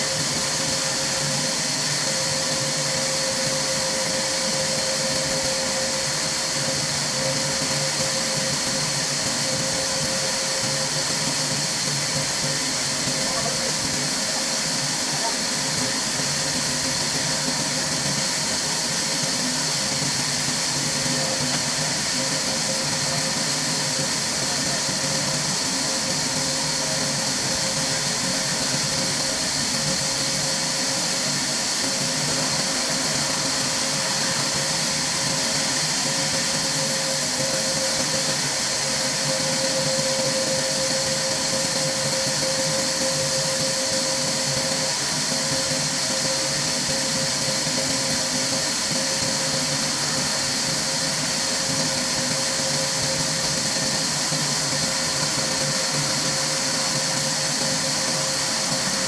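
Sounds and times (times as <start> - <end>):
machine hiss and hum: 0.0 - 59.0.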